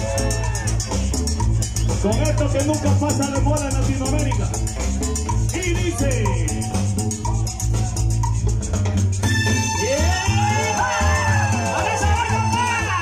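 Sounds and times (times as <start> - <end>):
live band playing cumbia: 0.0 - 13.0
shaker rhythm: 0.0 - 13.0.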